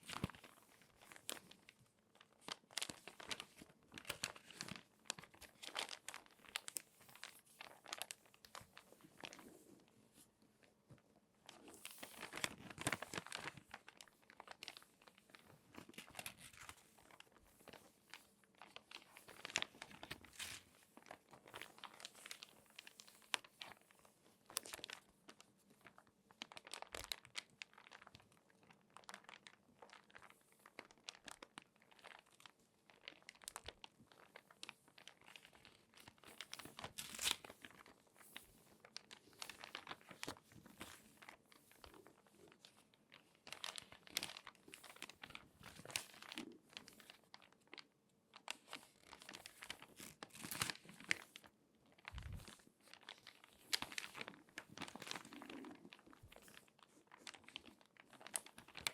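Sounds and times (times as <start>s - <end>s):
paper crinkling: 0.0s - 58.9s.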